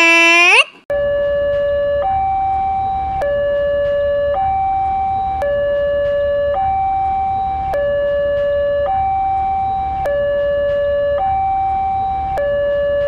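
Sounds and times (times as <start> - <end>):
two-tone siren: 0.0 - 13.0.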